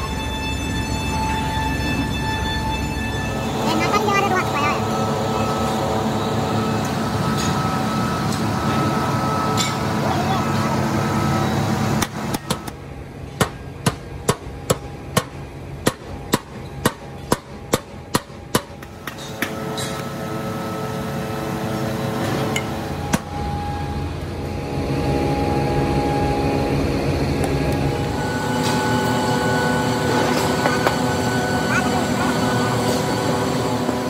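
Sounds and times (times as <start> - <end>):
workshop hum: 0.0 - 34.0.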